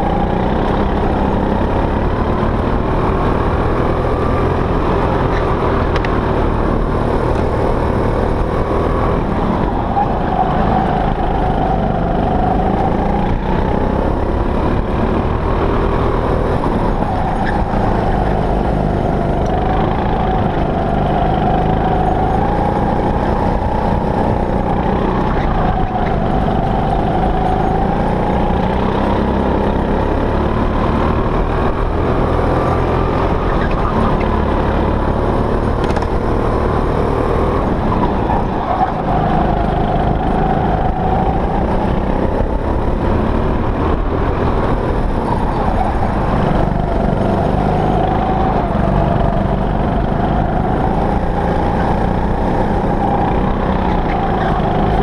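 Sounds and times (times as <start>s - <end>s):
go-kart engine at speed: 0.0s - 55.0s.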